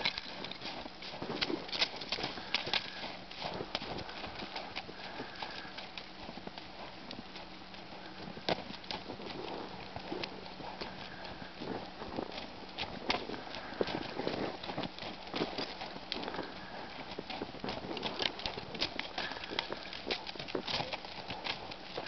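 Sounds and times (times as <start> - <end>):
hoofbeats in snow: 0.0 - 22.0.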